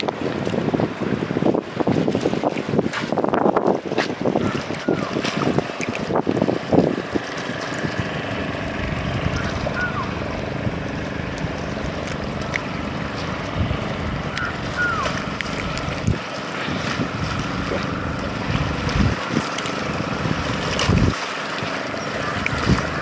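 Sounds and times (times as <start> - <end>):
wind buffeting microphone: 0.0 - 23.0
low steady hum: 4.4 - 23.0.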